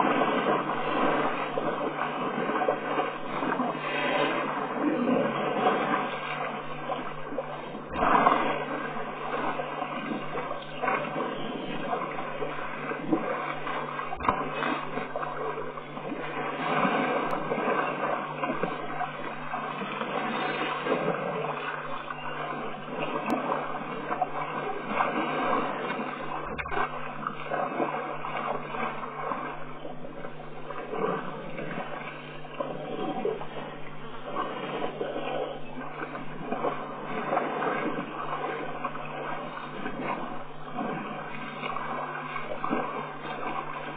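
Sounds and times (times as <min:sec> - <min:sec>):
water sloshing and splashing: 0:00.0 - 0:43.9.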